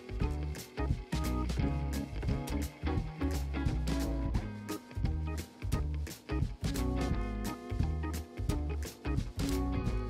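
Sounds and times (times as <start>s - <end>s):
music with beat bass and drums: 0.0s - 10.0s.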